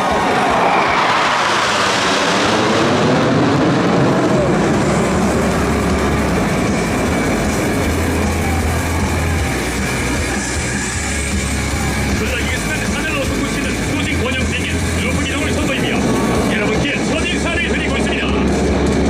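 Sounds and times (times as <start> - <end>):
jets roaring past: 0.0 - 19.0.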